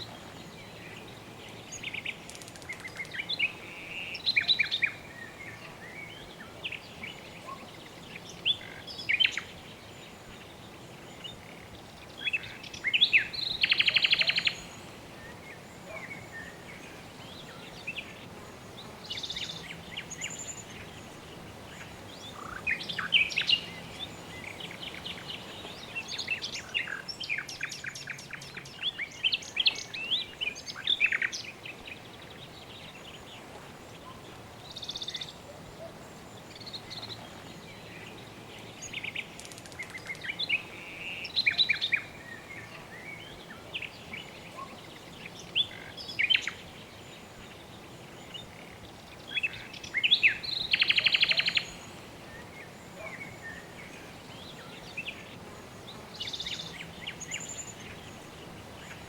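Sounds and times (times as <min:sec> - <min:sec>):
birds chirping: 0:00.0 - 0:59.0
soft steady background noise: 0:00.0 - 0:59.0.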